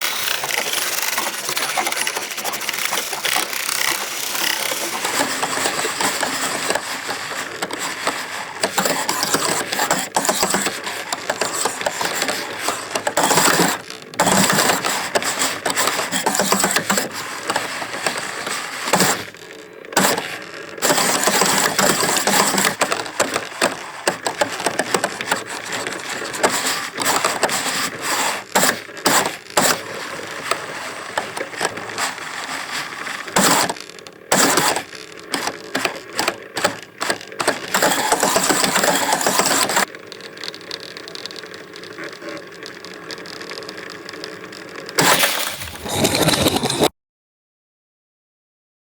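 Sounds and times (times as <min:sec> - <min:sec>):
motorized faders clattering: 0:00.0 - 0:42.0, 0:42.6 - 0:46.9.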